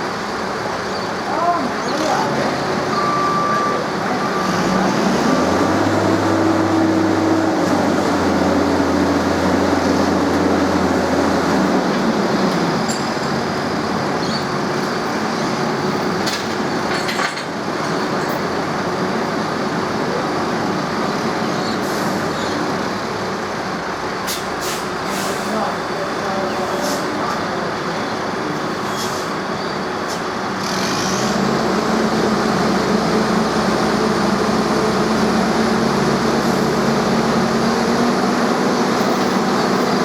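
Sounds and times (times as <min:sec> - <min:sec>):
locomotive diesel engine running: 0:00.0 - 0:40.0
steady background noise: 0:00.0 - 0:40.0.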